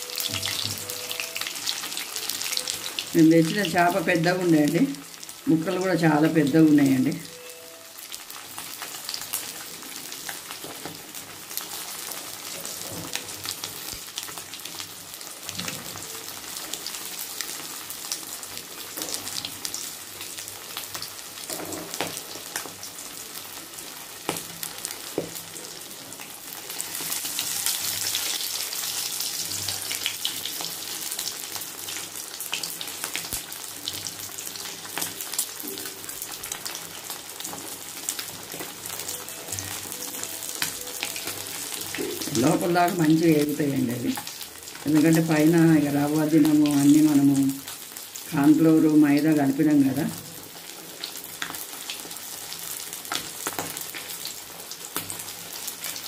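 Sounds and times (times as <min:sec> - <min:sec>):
fish sizzling in hot oil: 0:00.0 - 0:56.0.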